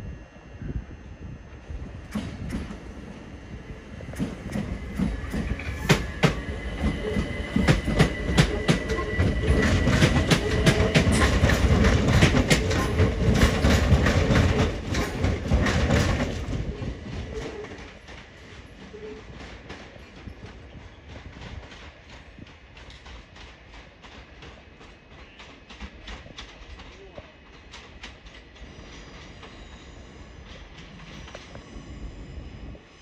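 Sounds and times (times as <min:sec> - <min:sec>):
train wheels clicking over rail joints: 0:02.0 - 0:03.2, 0:04.0 - 0:31.8.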